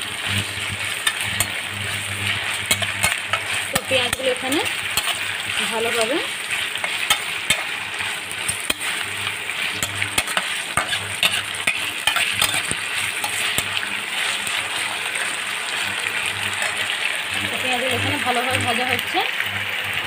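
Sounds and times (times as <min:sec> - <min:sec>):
spatula scraping a pan: 0:00.0 - 0:16.9
onions sizzling in oil: 0:00.0 - 0:20.0.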